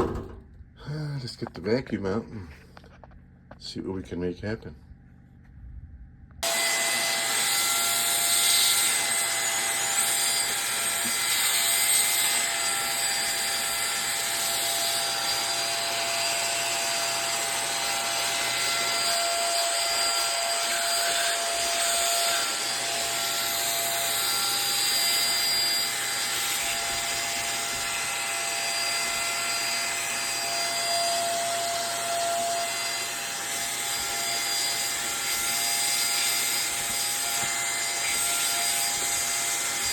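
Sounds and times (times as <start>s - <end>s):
vacuum cleaner running: 6.4s - 39.9s.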